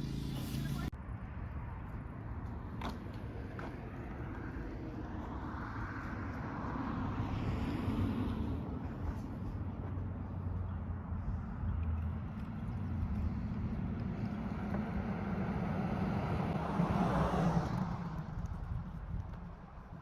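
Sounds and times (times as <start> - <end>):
car passing: 0.0 - 20.0
low steady street rumble: 0.0 - 20.0.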